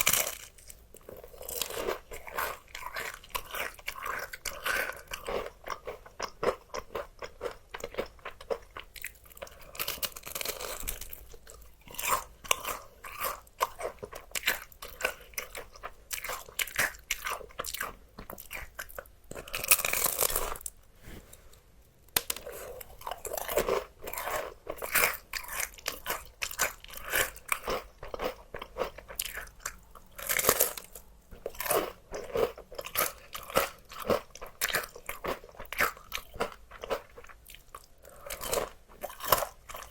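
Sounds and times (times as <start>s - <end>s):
crunching and chewing fried chicken: 0.0s - 20.8s, 22.1s - 39.9s.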